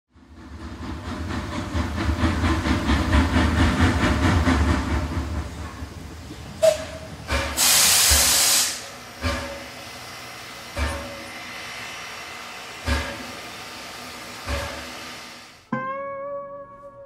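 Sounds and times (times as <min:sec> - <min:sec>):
steam locomotive chuffing: 0:00.2 - 0:15.7
steam hissing: 0:00.9 - 0:15.6.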